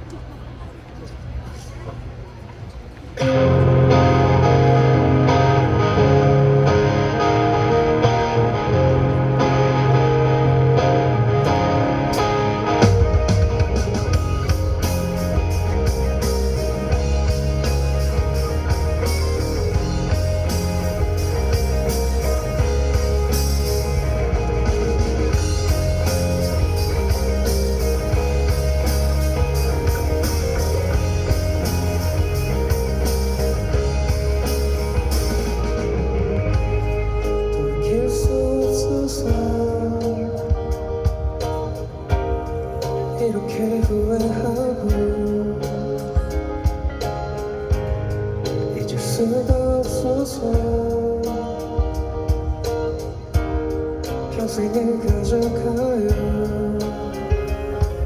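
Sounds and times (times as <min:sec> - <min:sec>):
electric guitar: 0:02.6 - 0:58.0
live rock band playing: 0:03.1 - 0:58.0.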